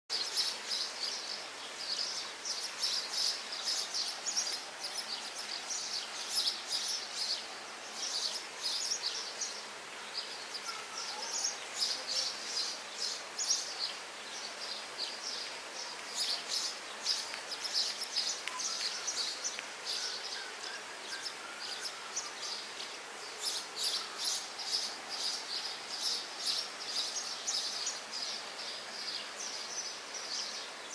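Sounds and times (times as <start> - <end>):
faint background hiss: 0.1 - 30.9
small birds chirping: 0.1 - 30.9.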